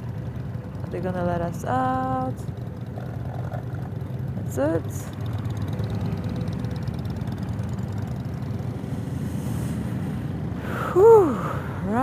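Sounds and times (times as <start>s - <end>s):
motorcycle engine running: 0.0s - 12.0s
other motorcycles running: 0.0s - 12.0s.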